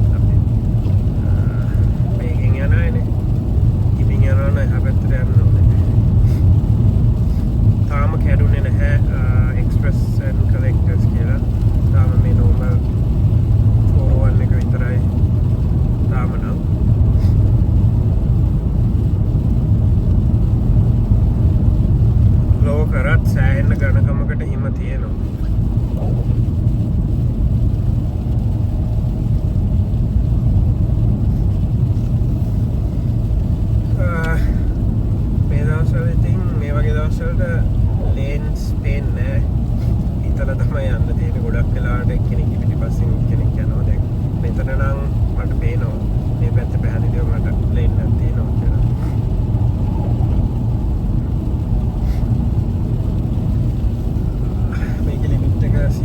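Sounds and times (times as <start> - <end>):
road and engine rumble in car: 0.0 - 56.0.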